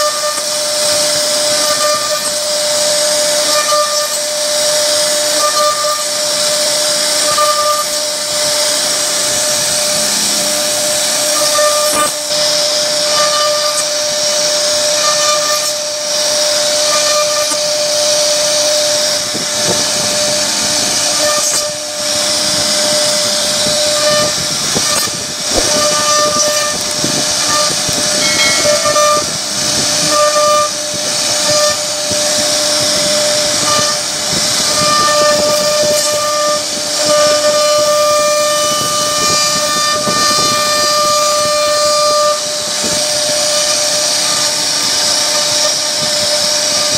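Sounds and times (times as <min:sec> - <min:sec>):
bit cutting wood hiss: 0:00.0 - 0:46.9
router spindle high whine: 0:00.0 - 0:46.9.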